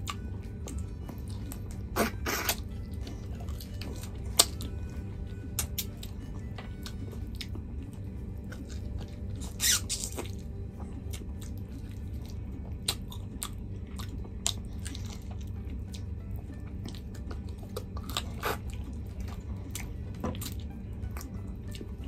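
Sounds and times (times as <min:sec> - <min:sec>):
close chewing and mouth clicks: 0:00.0 - 0:22.0.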